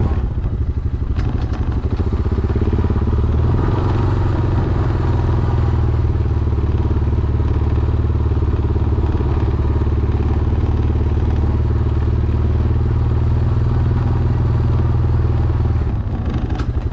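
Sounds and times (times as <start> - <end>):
atv engine running: 0.0 - 16.9.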